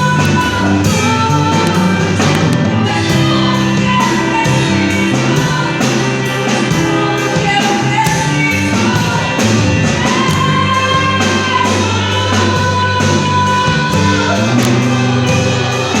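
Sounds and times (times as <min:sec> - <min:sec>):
band playing: 0:00.0 - 0:16.0
steady drum beat: 0:00.0 - 0:16.0
woman singing: 0:00.0 - 0:16.0.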